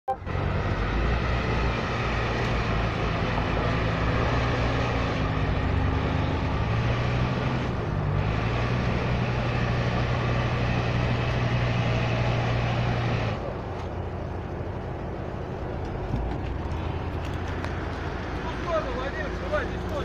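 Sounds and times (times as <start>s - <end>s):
vehicle engine running under load: 0.1s - 20.0s.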